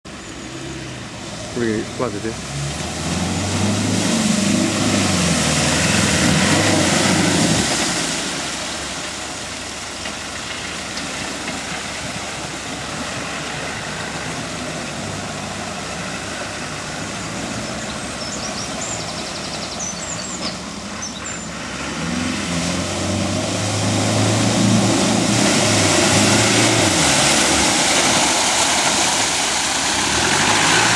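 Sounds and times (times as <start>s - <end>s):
wheels churning and splashing: 0.2s - 30.9s.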